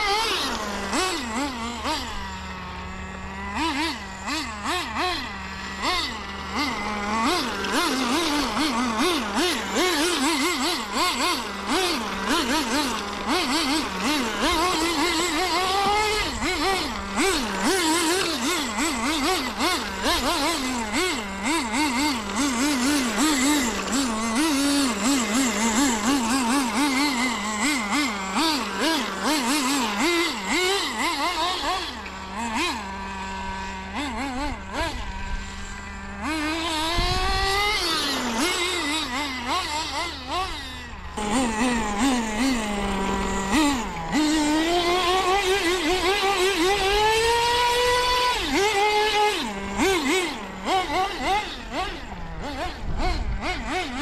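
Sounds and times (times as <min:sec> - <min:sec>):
rc car nitro engine revving: 0:00.0 - 0:54.0.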